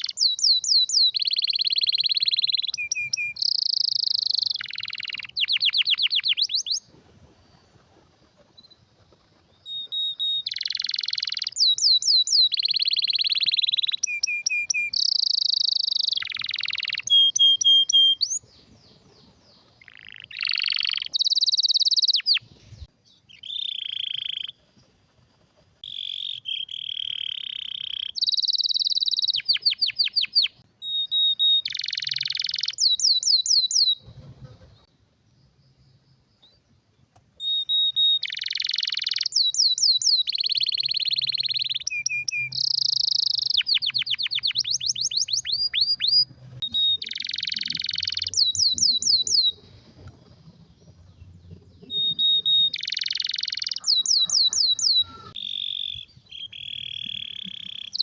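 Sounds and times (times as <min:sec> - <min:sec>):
canary singing trills: 0:00.0 - 0:36.8, 0:37.4 - 0:58.0.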